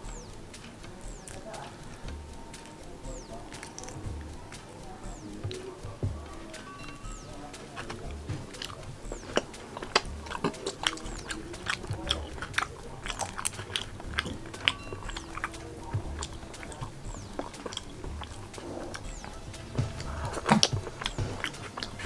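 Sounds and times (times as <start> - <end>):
wet mouth clicks and smacks: 1.1 - 4.6, 6.8 - 22.0
person chewing: 1.1 - 22.0.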